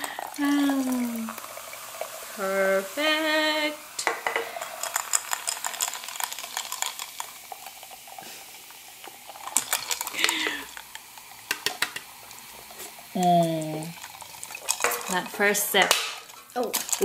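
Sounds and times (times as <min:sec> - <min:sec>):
ice clicking: 0:00.0 - 0:01.5, 0:04.0 - 0:13.0, 0:13.8 - 0:17.0
soda pouring and fizzing: 0:00.0 - 0:17.0.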